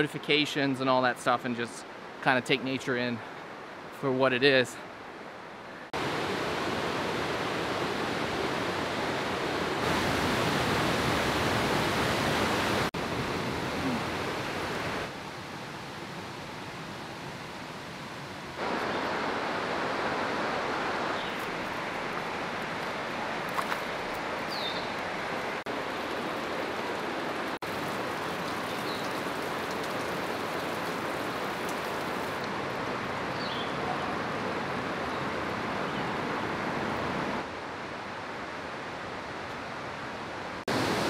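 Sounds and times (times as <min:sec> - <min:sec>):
river water rushing: 0:04.8 - 0:41.0.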